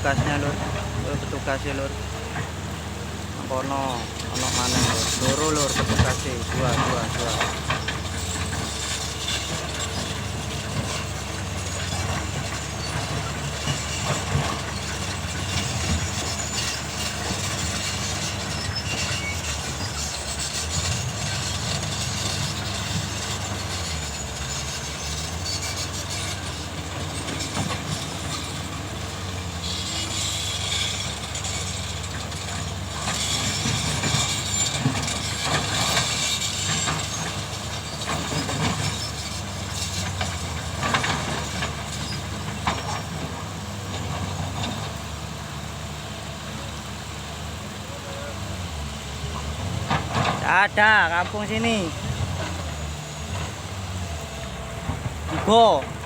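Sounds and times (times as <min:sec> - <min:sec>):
diesel engine drone: 0:00.0 - 0:56.0
excavator clanks: 0:00.0 - 0:56.0.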